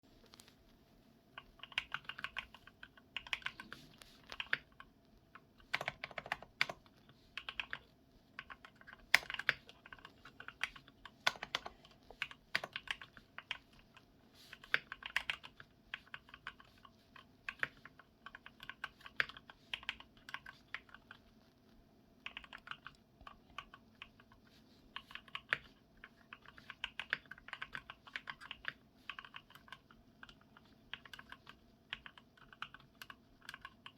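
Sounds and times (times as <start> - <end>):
mechanical keyboard typing: 1.4 - 21.3, 22.2 - 33.9.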